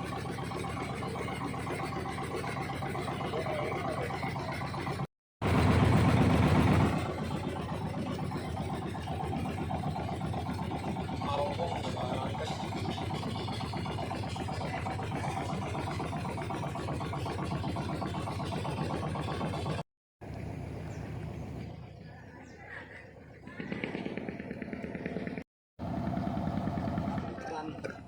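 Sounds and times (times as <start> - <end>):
vehicle engine running: 0.0 - 21.7, 23.5 - 28.0.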